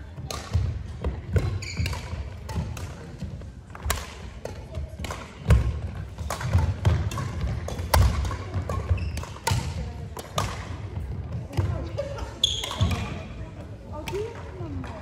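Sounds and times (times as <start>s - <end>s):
racket hitting shuttlecock: 0.1s - 14.9s.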